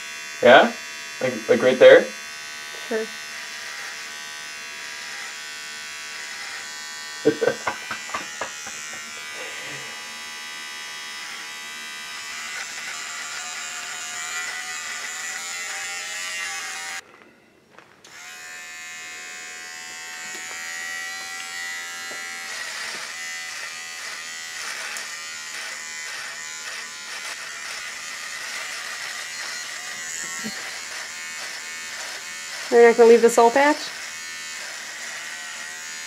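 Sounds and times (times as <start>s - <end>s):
electric beard trimmer buzzing: 0.0s - 17.0s, 18.1s - 36.0s.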